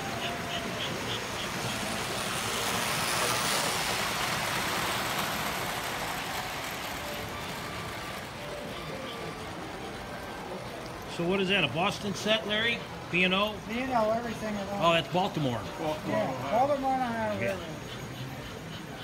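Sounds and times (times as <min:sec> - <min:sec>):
model train rumbling past: 0:00.0 - 0:19.0.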